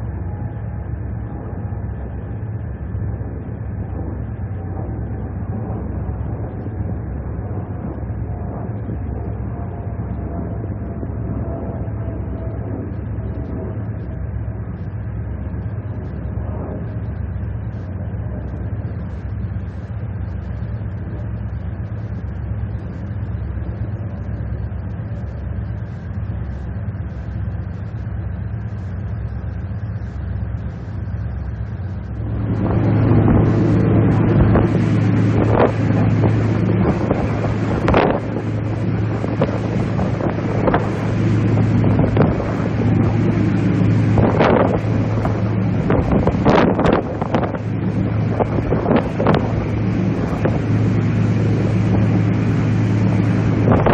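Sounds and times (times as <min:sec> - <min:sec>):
ferry engine droning: 0:00.0 - 0:53.9
wind buffeting microphone: 0:00.0 - 0:53.9.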